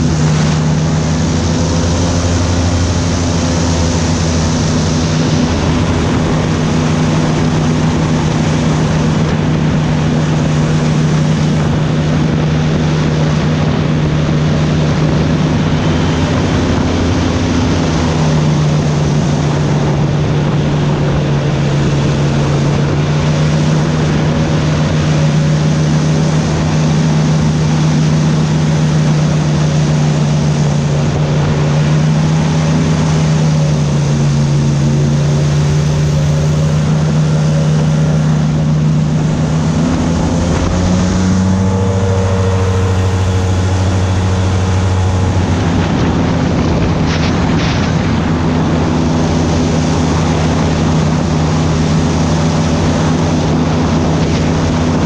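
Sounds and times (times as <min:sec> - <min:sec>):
airboat engine and propeller drone: 0:00.0 - 0:55.0.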